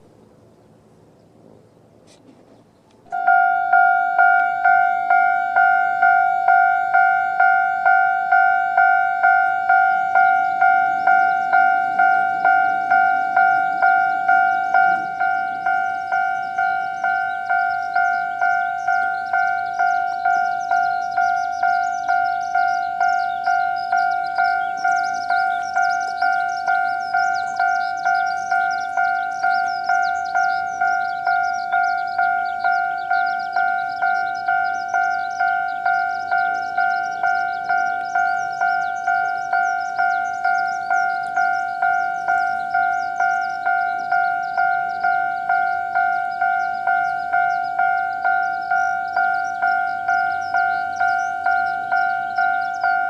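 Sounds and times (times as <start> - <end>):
level crossing warning bell: 3.0 - 53.0.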